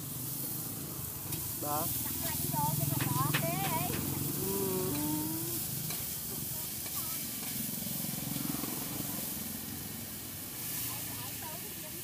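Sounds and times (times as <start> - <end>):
noodles sizzling in oil: 0.0 - 12.0.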